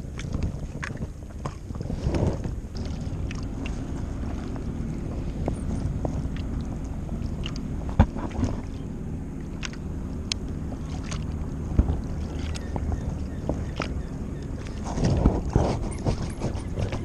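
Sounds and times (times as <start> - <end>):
water sloshing against a board: 0.0 - 17.0.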